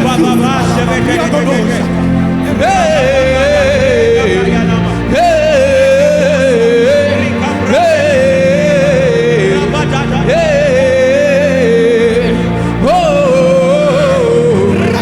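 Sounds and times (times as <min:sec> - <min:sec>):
person singing wordless chant: 0:00.0 - 0:15.0
steady held chords: 0:00.0 - 0:15.0.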